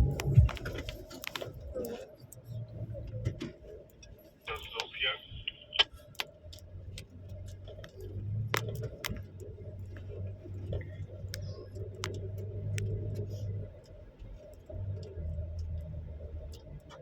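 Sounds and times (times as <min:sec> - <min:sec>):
light clicks and rattles: 0:00.0 - 0:04.9, 0:05.5 - 0:17.0
vehicle engine drone: 0:00.0 - 0:17.0.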